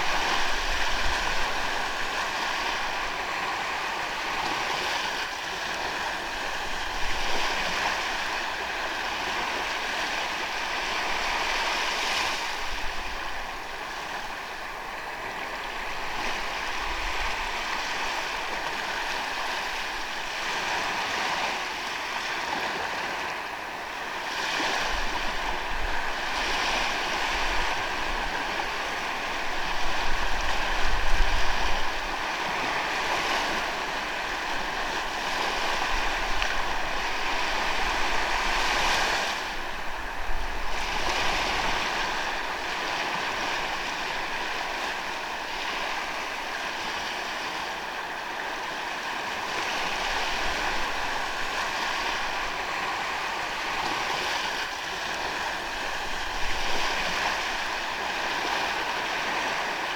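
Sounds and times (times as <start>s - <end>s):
ocean waves on sandy beach: 0.0s - 59.9s.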